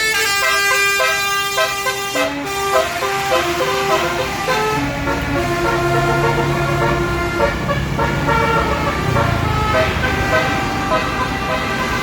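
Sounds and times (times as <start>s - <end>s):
bus engine drone: 0.0s - 12.0s
multi-tone air horn playing a tune: 0.0s - 12.0s.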